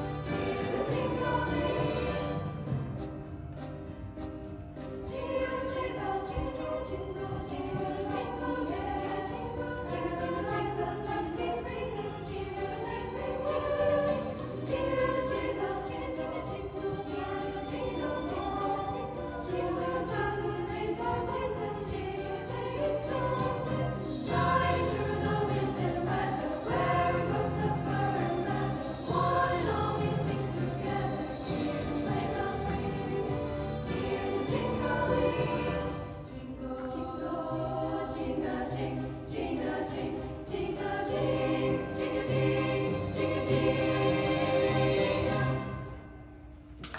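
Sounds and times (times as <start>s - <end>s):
girls choir singing: 0.0s - 2.6s, 5.0s - 46.1s.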